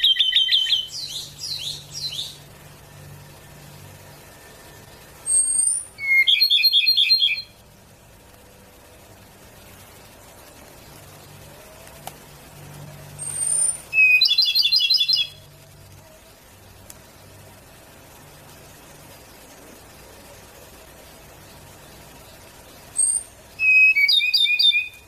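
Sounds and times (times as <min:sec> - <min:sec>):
bird singing high note and trill: 0:00.0 - 0:25.0.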